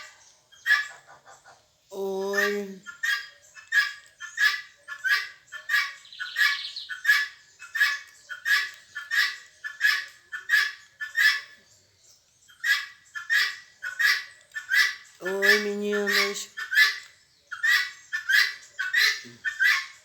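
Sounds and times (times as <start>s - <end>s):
bird squawking: 0.0s - 11.6s, 12.5s - 20.0s.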